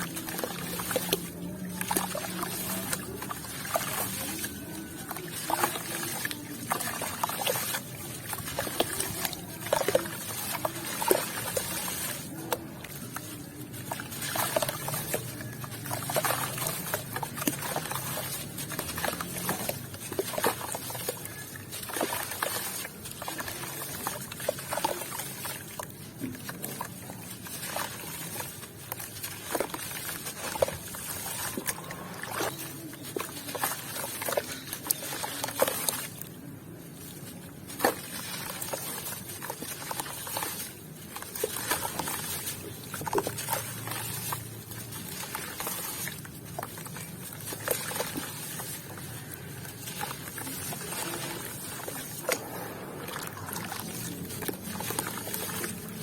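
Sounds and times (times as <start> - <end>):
cement chunks crunching: 0.0 - 56.0.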